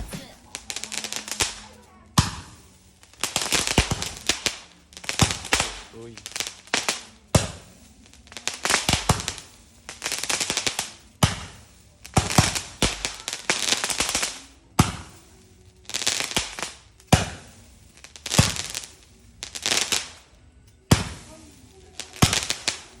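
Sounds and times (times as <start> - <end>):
fireworks banging: 0.0 - 15.3, 15.9 - 23.0
fireworks crackling: 0.0 - 23.0.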